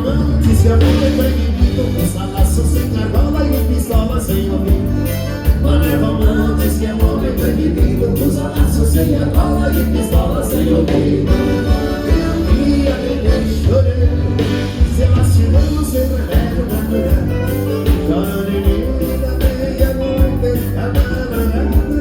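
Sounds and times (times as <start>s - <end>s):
accordion dance band music: 0.0s - 22.0s
bass and drums beat: 0.0s - 22.0s.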